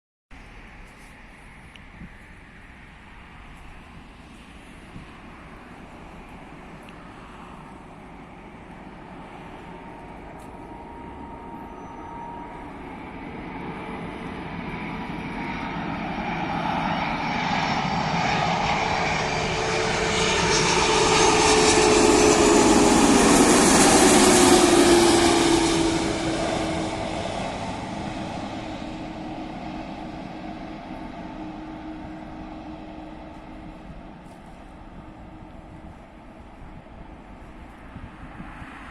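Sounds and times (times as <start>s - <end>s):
jet plane passing overhead: 0.4s - 38.9s.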